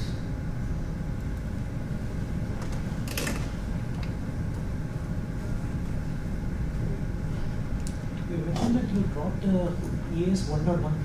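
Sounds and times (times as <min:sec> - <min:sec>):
low room rumble and hum: 0:00.0 - 0:11.0.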